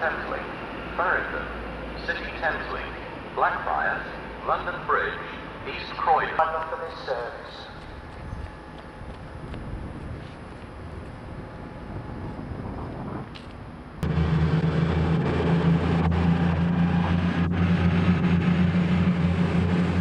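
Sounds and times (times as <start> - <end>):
station and passing train noise: 0.0 - 20.0
train diesel engine running: 0.0 - 20.0.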